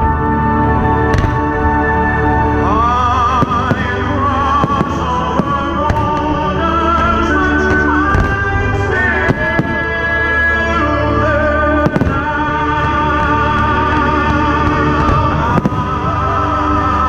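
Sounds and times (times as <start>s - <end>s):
loud music with held notes: 0.0s - 17.0s
fireworks bangs and crackles: 0.9s - 17.0s.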